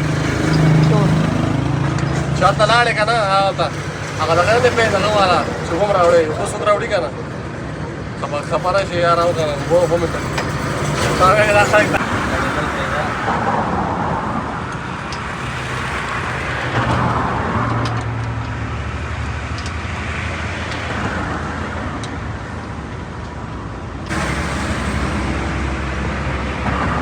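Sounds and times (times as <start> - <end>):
road traffic noise: 0.0 - 27.0
vehicle engine running: 0.0 - 27.0.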